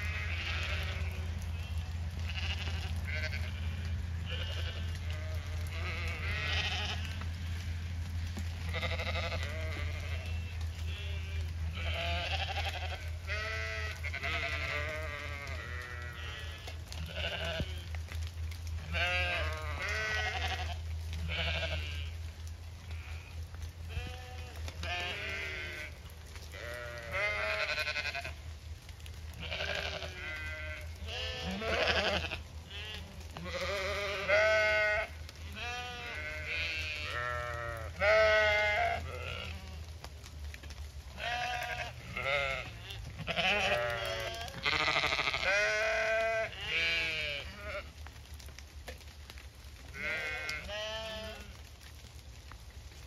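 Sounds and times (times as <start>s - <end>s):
sheep bleating: 0.0s - 7.8s, 8.6s - 18.0s, 18.8s - 22.2s, 22.8s - 28.4s, 29.3s - 39.9s, 41.2s - 48.0s, 49.9s - 51.6s.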